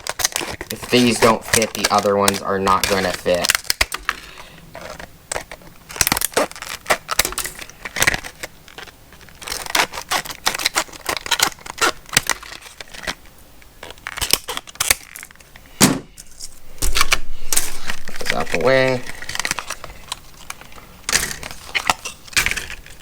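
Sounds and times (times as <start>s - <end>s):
packaging crinkling and tearing: 0.0s - 23.0s.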